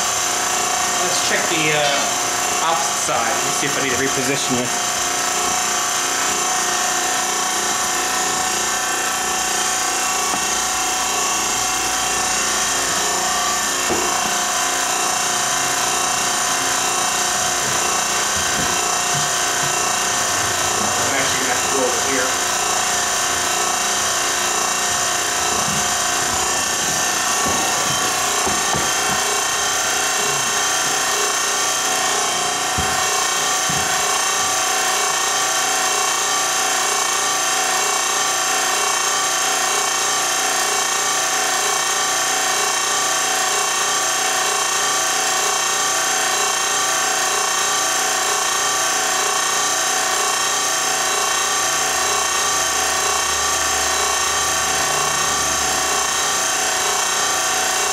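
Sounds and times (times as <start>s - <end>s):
steady mechanical whir: 0.0s - 57.9s.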